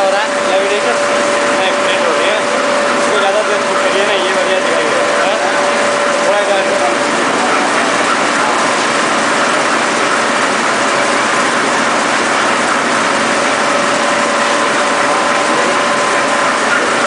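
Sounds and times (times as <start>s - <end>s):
printing machine running: 0.0s - 17.0s.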